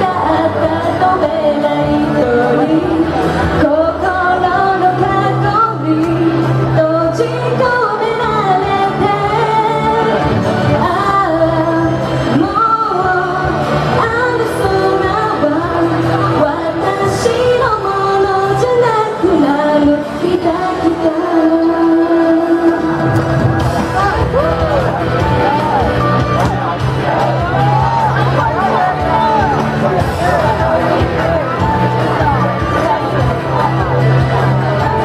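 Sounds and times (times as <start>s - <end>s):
backing track: 0.0s - 35.0s
woman singing pop song: 0.0s - 35.0s.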